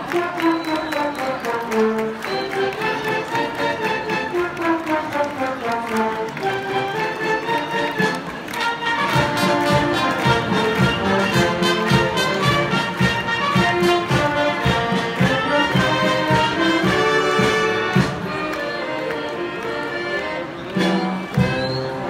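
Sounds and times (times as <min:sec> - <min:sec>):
brass band playing dance tune: 0:00.0 - 0:22.0.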